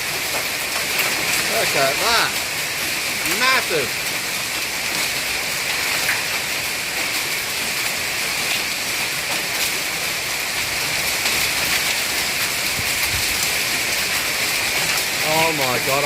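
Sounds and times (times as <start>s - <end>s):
hailstones hitting: 0.0s - 16.0s
heavy rain pouring: 0.0s - 16.0s.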